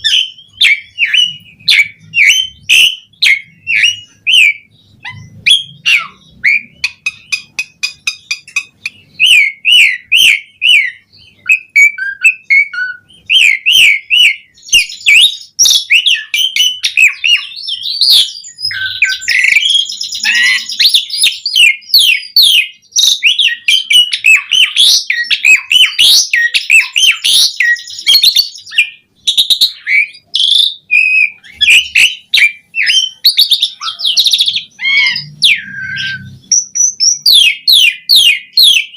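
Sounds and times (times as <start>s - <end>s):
starling singing: 0.0s - 38.9s.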